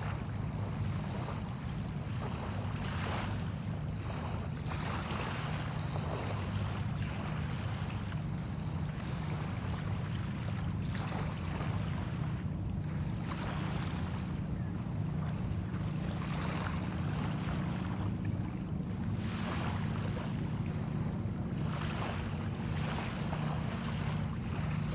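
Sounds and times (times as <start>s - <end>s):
water washing ashore: 0.0s - 24.9s.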